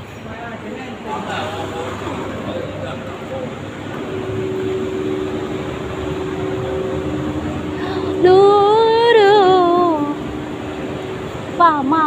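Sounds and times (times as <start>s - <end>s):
street traffic hum: 0.0s - 12.0s
loud wavering pitched tone: 1.2s - 12.0s.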